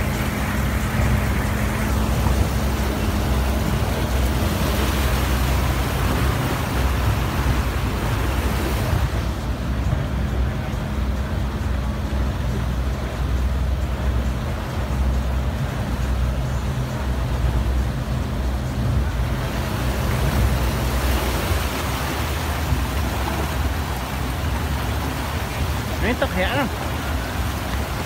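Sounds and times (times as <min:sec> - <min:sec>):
speedboat engine drone: 0:00.0 - 0:28.0
wind and water rushing: 0:00.0 - 0:28.0.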